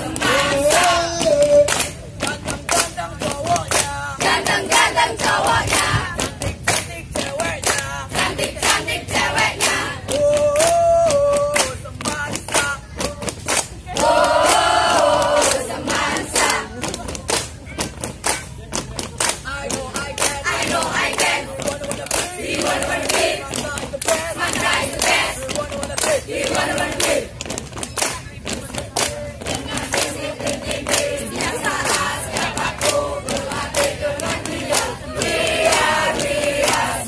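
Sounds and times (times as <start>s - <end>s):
sharp hand claps: 0.0s - 8.0s, 8.6s - 37.0s
girls singing and chanting: 0.0s - 37.0s.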